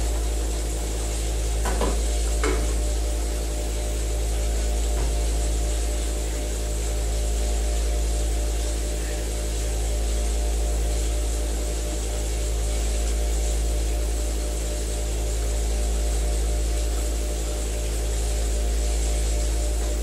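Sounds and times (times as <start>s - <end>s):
vibration platform humming: 0.0s - 20.0s.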